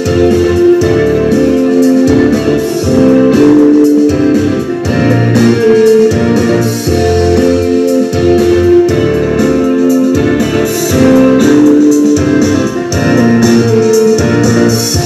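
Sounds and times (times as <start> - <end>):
instrumental music with held chords: 0.0 - 15.0
low bass line: 0.0 - 15.0.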